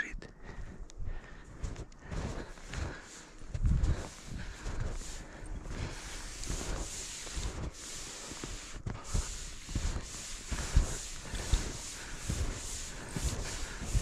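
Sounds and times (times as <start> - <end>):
footsteps in snow: 0.4 - 14.0.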